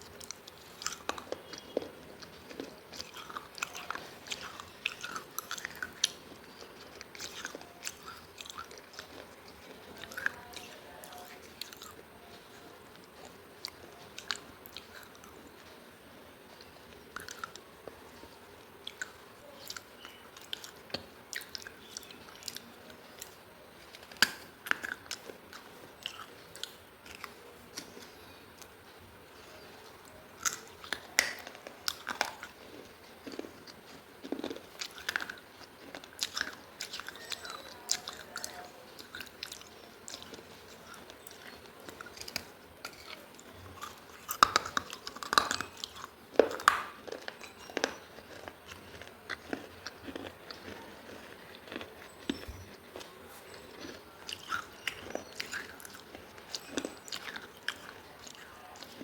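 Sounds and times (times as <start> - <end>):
chewing and crunching baked clay: 0.0 - 59.0.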